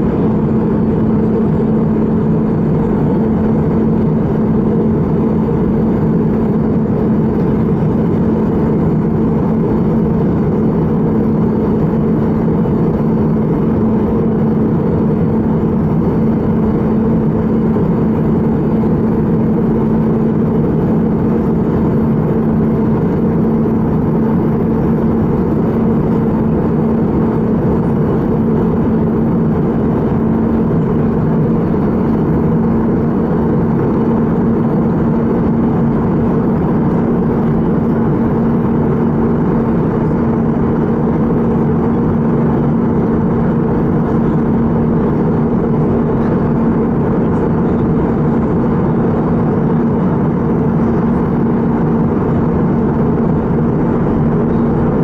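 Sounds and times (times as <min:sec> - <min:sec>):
constant cabin hum: 0:00.0 - 0:55.0
jet engines and airflow rushing: 0:00.0 - 0:55.0.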